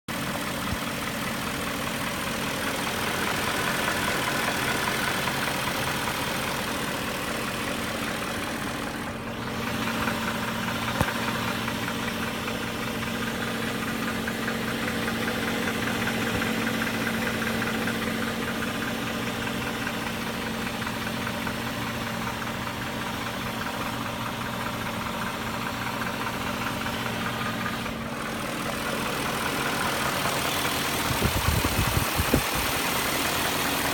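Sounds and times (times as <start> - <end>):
car engine knocking and rattling: 0.1 - 33.9.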